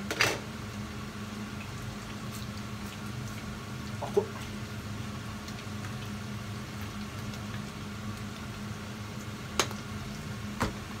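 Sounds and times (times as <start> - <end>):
kitchen background hiss: 0.0 - 11.0.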